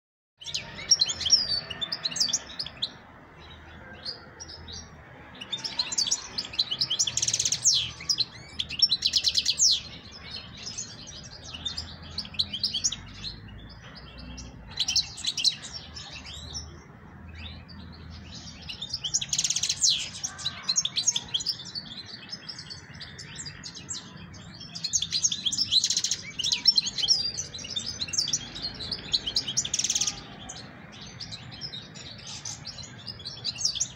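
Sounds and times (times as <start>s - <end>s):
goldfinch twittering and trills: 0.4s - 33.9s.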